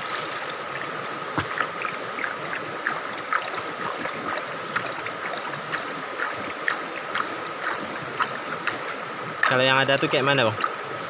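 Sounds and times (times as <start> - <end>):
water sloshing in pan: 0.0 - 9.7
stream rushing: 0.0 - 11.0.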